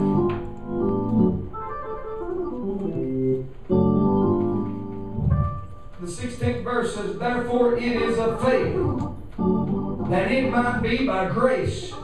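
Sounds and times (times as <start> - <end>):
organ playing sustained chords: 0.0 - 12.0.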